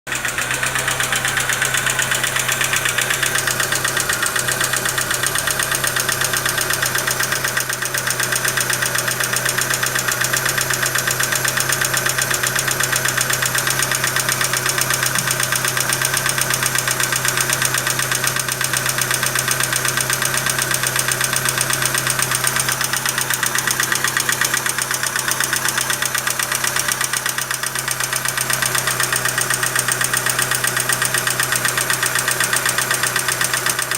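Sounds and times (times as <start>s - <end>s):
car engine idling with ticking: 0.0s - 33.9s.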